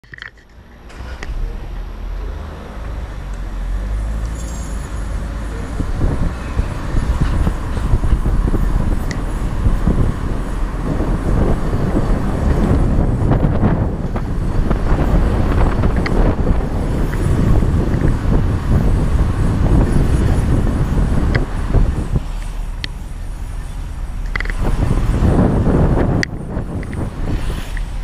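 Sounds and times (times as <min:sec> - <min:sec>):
tyres rumbling on road: 0:00.0 - 0:28.0
wind buffeting microphone: 0:04.9 - 0:28.0.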